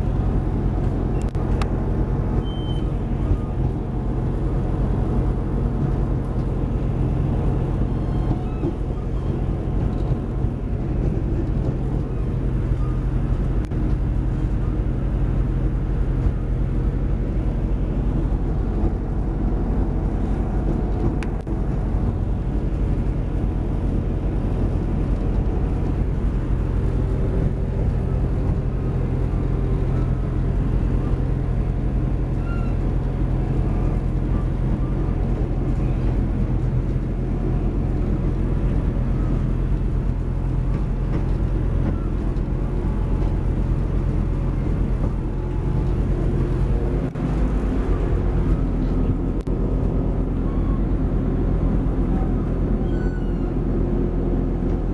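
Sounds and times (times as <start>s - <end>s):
train rumbling on tracks: 0.0s - 54.9s.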